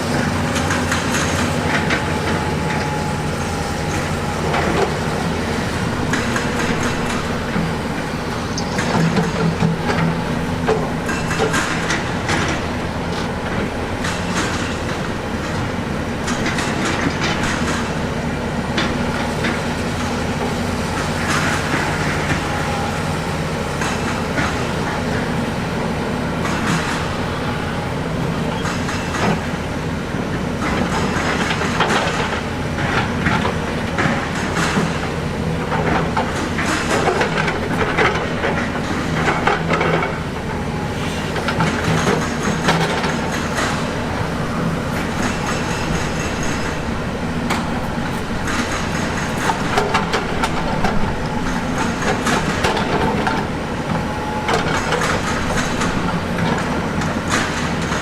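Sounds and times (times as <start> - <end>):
diesel earthmoving machine running: 0.0 - 58.0.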